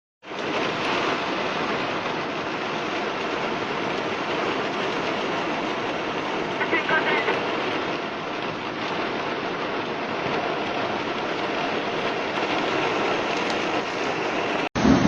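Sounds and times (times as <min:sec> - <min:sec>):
heavy rain pouring: 0:00.2 - 0:15.0.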